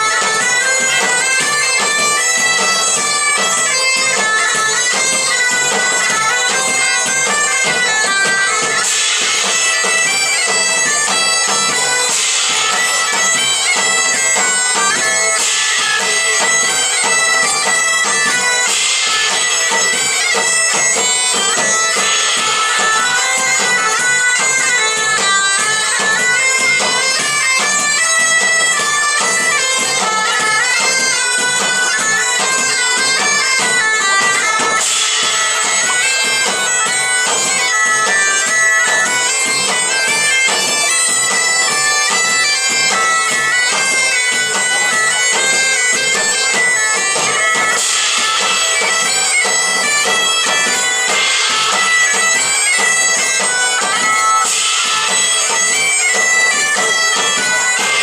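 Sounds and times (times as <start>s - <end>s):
bagpipes playing a melody: 0.0s - 58.0s
drums beating: 0.0s - 58.0s.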